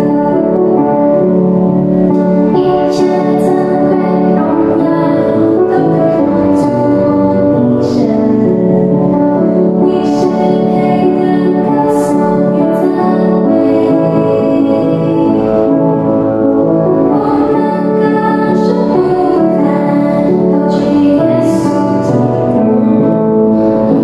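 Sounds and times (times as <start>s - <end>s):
two women singing together: 0.0s - 1.2s, 2.5s - 16.2s, 16.9s - 24.0s
keyboard instrumental backing: 0.0s - 24.0s.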